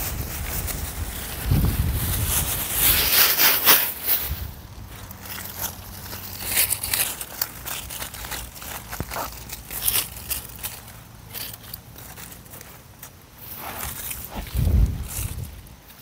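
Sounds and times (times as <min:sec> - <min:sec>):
dry leaves rustling and crackling: 0:00.0 - 0:16.0.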